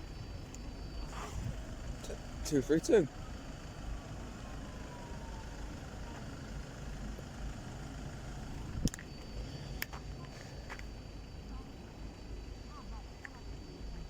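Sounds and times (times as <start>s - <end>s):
tram low rumble: 0.0s - 14.0s.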